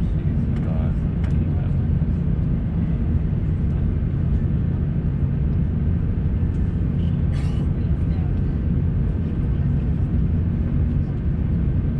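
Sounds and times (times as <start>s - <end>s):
airliner cabin rumble: 0.0s - 11.9s.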